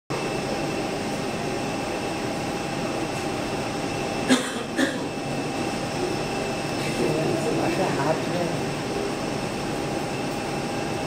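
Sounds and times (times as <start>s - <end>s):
jet engines whining: 0.1s - 11.0s.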